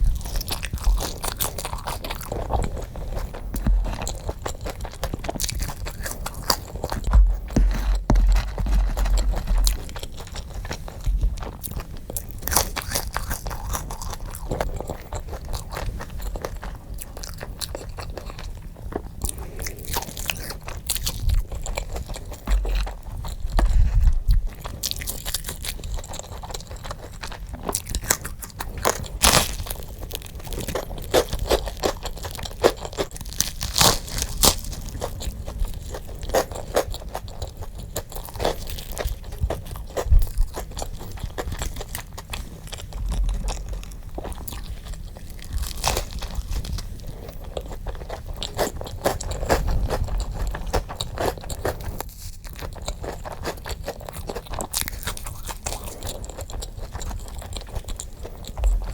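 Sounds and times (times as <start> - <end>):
person crunching and chewing: 0.0 - 58.9.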